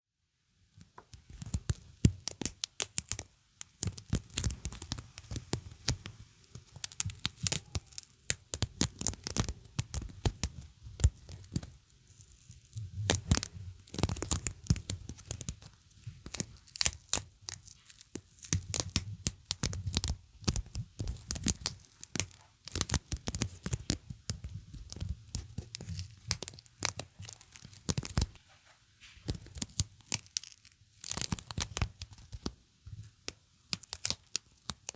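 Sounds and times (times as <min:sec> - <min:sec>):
sticky surface peeling with pops: 0:01.0 - 0:11.8, 0:12.4 - 0:28.4, 0:29.0 - 0:34.9.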